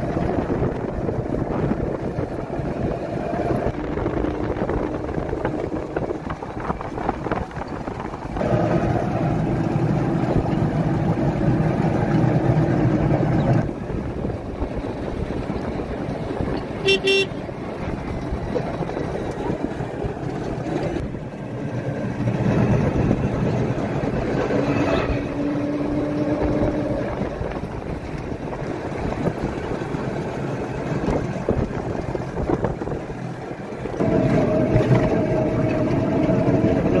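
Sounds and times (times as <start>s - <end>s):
engine droning: 0.0s - 37.0s
traffic rushing past: 0.0s - 37.0s.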